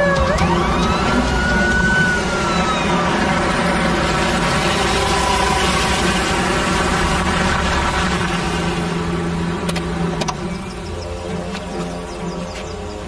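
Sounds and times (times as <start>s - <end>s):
car driving up and stopping: 0.0s - 13.0s.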